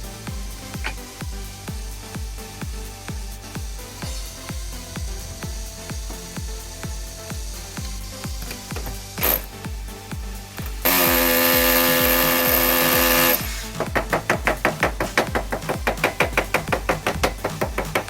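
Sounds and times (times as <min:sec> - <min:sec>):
background music with beat: 0:00.0 - 0:18.0.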